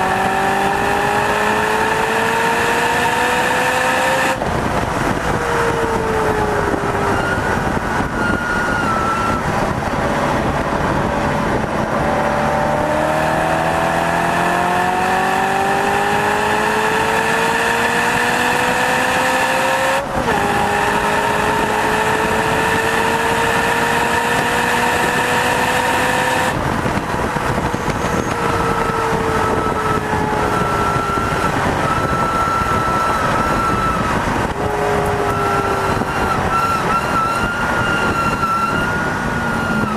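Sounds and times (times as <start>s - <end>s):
car engine under load: 0.0s - 39.9s
wind and road noise: 0.0s - 39.9s.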